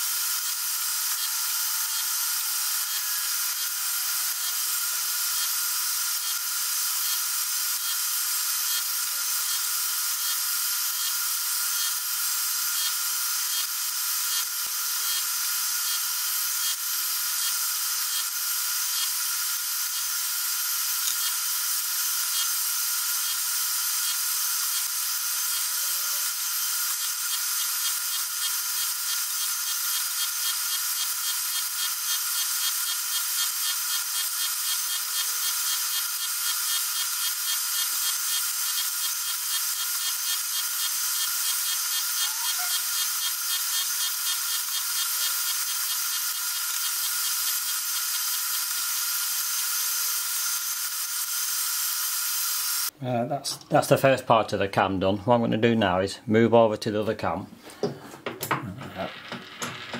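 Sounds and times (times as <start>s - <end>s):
milling machine whining: 0.0s - 12.1s, 12.8s - 51.2s, 58.5s - 59.9s.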